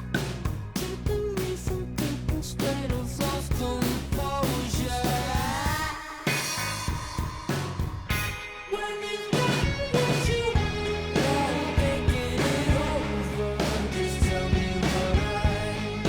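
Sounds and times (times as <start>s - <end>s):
rock music with drums and bass: 0.0s - 16.0s.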